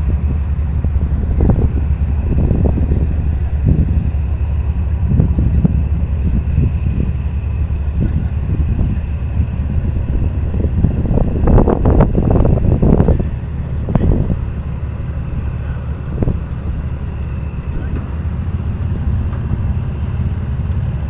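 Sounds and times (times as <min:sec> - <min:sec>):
boat engine rumbling: 0:00.0 - 0:21.0
wind buffeting microphone: 0:00.0 - 0:21.0.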